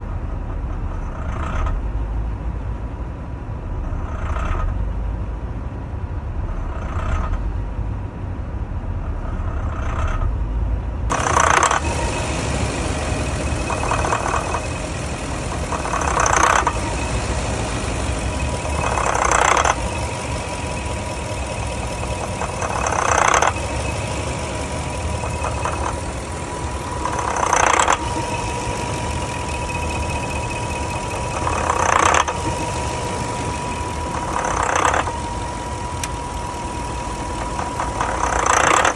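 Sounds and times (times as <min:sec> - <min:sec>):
engine idling roughly: 0:00.0 - 0:38.9.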